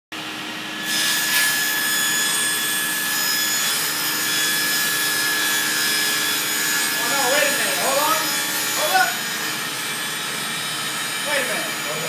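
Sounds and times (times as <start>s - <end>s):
power saw cutting wood: 0.6s - 12.0s.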